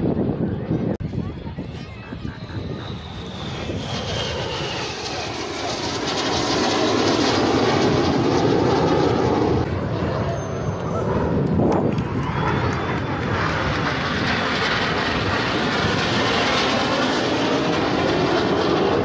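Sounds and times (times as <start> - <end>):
jet aircraft roar flying past: 0.0 - 19.0.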